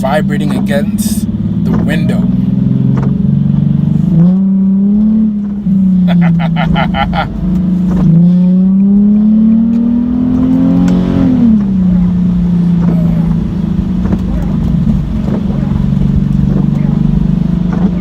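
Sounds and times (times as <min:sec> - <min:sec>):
car exhaust drone: 0:00.0 - 0:18.0
exhaust crackles: 0:00.0 - 0:18.0.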